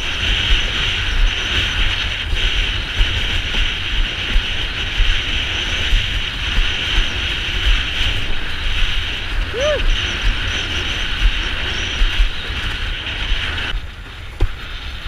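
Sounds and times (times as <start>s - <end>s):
water rushing under board: 0.0s - 15.0s
wind buffeting microphone: 0.0s - 15.0s.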